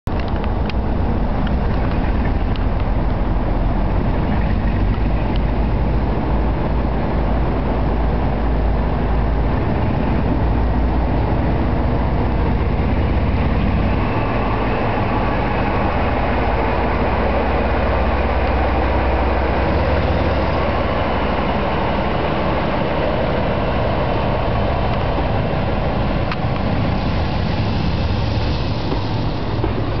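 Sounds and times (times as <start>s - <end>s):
diesel locomotive engine throbbing: 0.1s - 30.0s
train rumbling on rails: 0.1s - 30.0s.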